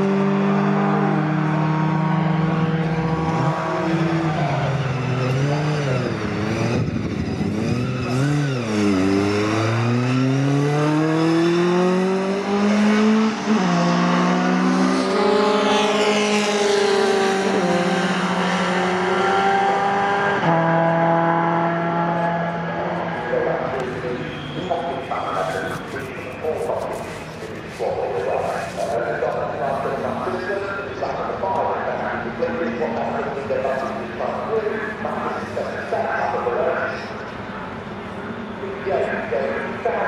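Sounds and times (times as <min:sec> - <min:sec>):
racing truck engines revving: 0:00.0 - 0:40.0.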